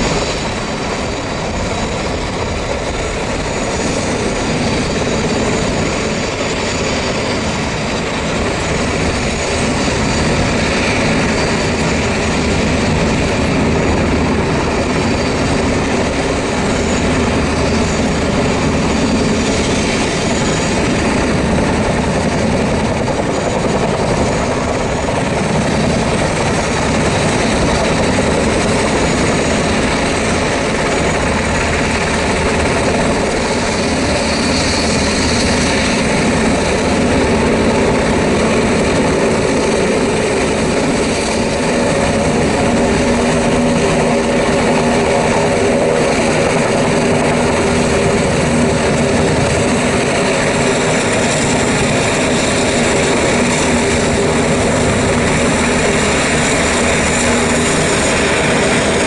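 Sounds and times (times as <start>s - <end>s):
helicopters running: 0.0s - 59.0s.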